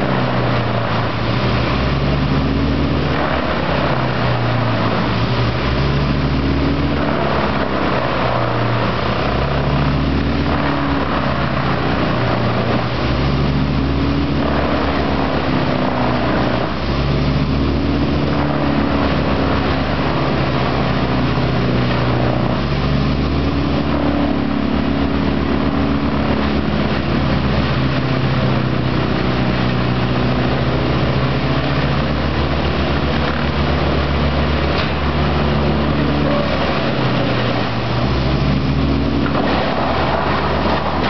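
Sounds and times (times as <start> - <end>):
wood chipper chipping branches: 0.0 - 41.0.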